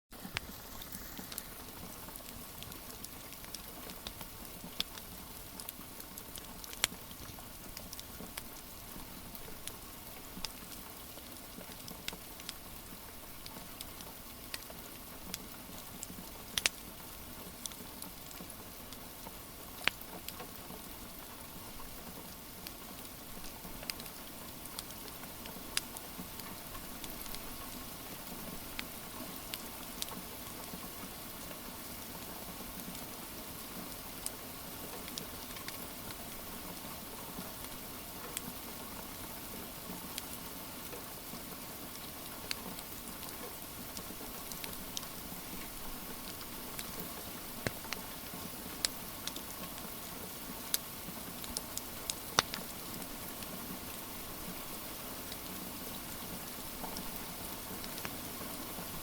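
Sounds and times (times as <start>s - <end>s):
rain patter: 0.1s - 59.0s
wood fire crackling and popping: 0.2s - 22.0s, 22.6s - 30.8s, 33.9s - 36.8s, 40.1s - 40.3s, 42.0s - 50.1s, 50.7s - 54.6s, 55.2s - 59.0s.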